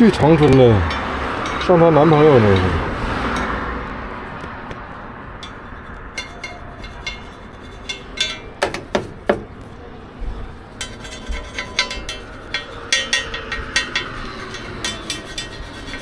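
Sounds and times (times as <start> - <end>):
metal utensils clinking: 0.0 - 3.5, 5.4 - 9.6, 10.8 - 16.0.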